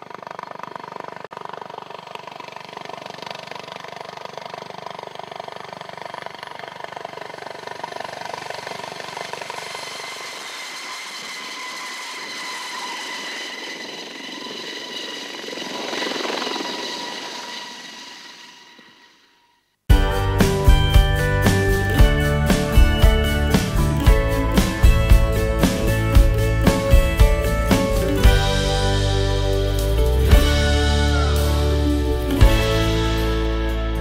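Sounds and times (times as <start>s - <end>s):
helicopter rotor chop: 0.0s - 19.0s, 19.9s - 34.0s
turbine whine: 0.0s - 34.0s.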